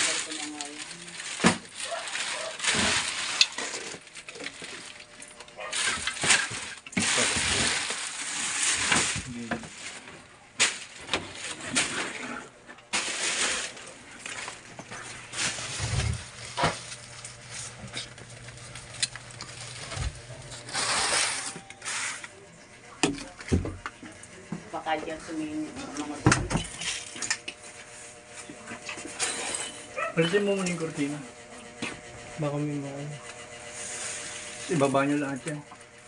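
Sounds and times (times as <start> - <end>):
rustling and scraping of clutter: 0.0 - 36.0.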